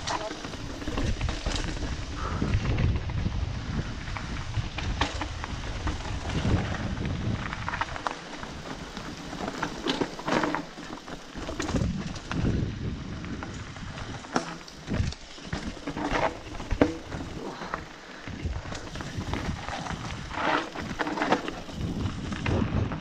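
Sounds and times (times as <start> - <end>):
tyres crunching over gravel: 0.0 - 3.0, 3.8 - 23.0
bike clattering over bumps: 0.0 - 3.2, 4.2 - 12.7, 13.3 - 23.0
wind rumble on microphone: 0.0 - 9.7, 11.4 - 23.0.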